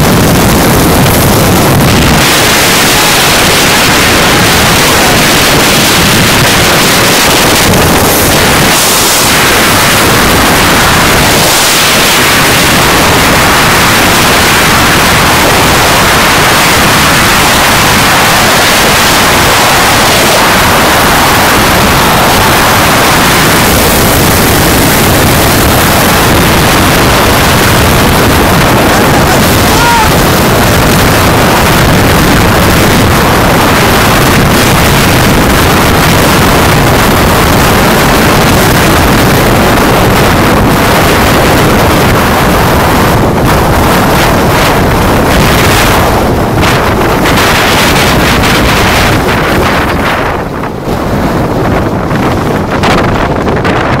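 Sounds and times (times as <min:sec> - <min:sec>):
wind blasting over microphone: 0:00.0 - 0:54.0.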